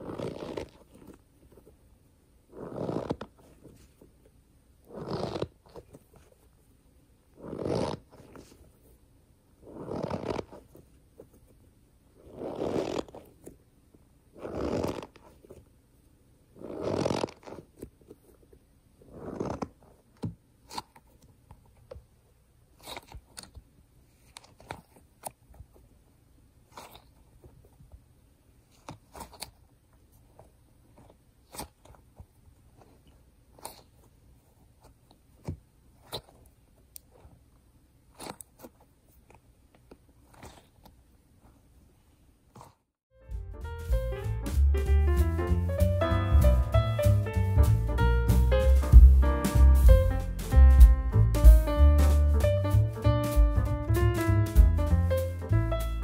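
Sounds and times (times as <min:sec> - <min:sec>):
stress ball squishing: 0:00.0 - 0:56.0.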